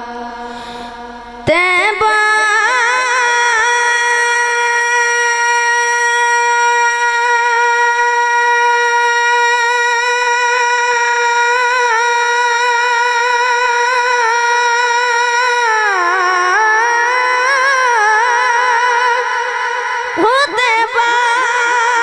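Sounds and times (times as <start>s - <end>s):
boy singing sustained note: 0.0s - 22.0s.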